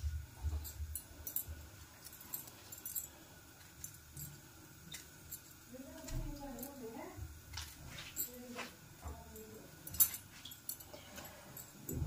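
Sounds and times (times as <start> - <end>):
light metallic clinks: 0.4 - 7.1, 8.1 - 12.0.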